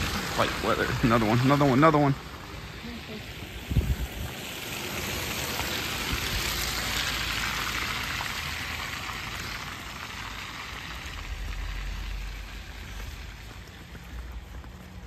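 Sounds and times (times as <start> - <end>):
car tyres hissing in slush: 0.0 - 15.0.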